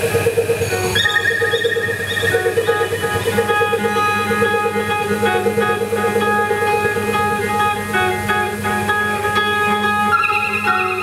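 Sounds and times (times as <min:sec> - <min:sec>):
ambient guitar and electronic drones: 0:00.0 - 0:11.0.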